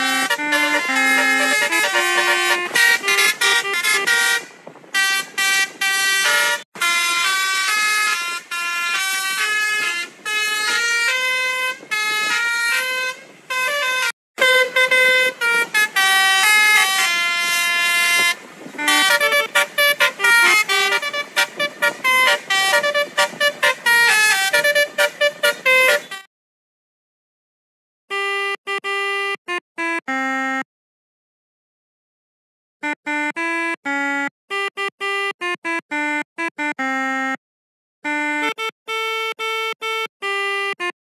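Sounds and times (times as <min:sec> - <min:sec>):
multi-tone air horn melody: 0:00.0 - 0:26.3, 0:28.1 - 0:30.6, 0:32.8 - 0:37.4, 0:38.0 - 0:41.0.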